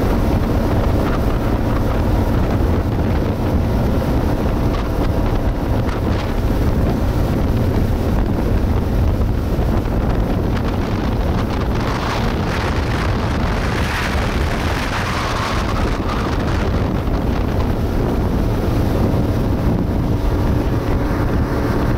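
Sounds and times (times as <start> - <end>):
boat engine running: 0.0 - 21.9
rushing boat wake: 0.0 - 21.9
wind buffeting microphone: 0.0 - 21.9.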